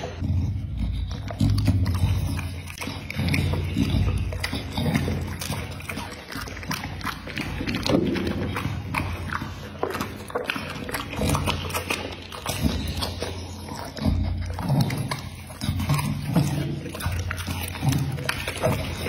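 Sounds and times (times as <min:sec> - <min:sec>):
dog licking and chewing: 0:00.0 - 0:19.0.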